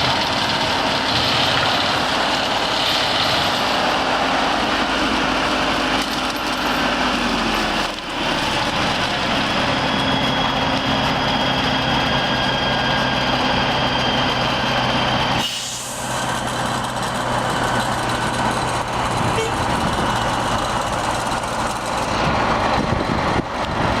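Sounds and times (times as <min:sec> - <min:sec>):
tractor with mulcher running: 0:00.0 - 0:24.0.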